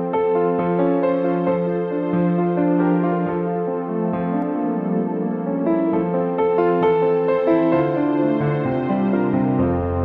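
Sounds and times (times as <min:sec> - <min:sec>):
gentle keyboard music: 0:00.0 - 0:10.0.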